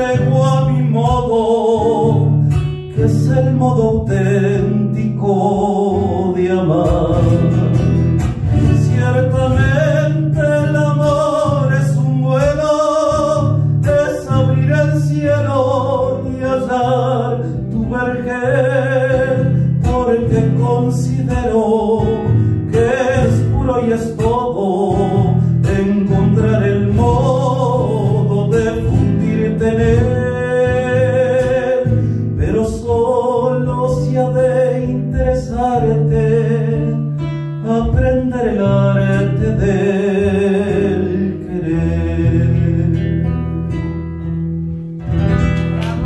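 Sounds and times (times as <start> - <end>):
man singing: 0.0 - 44.0
acoustic guitar: 0.0 - 46.0.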